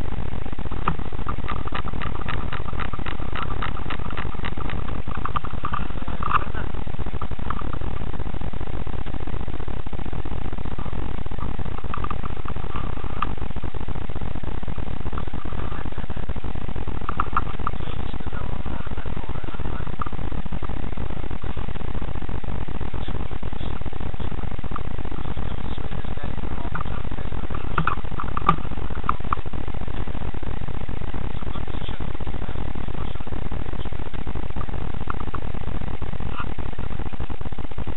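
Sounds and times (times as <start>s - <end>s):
low rumbling noise: 0.0s - 37.9s.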